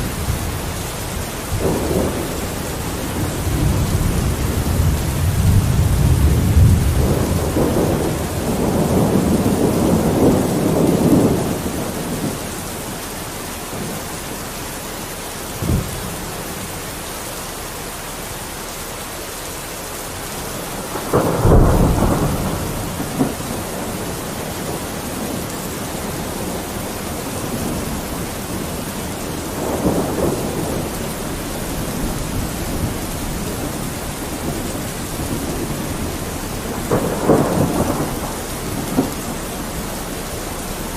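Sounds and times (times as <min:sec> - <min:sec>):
thunder rumbling: 0:00.0 - 0:17.1, 0:20.0 - 0:40.9
steady rain: 0:00.0 - 0:40.9.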